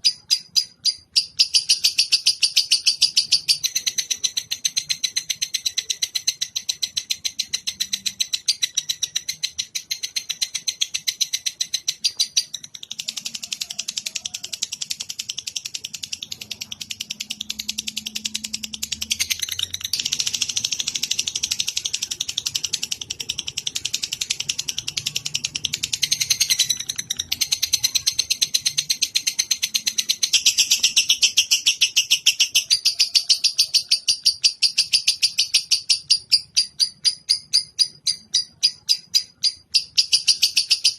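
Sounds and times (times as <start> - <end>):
recorded bird call chirps: 0.0 - 40.9.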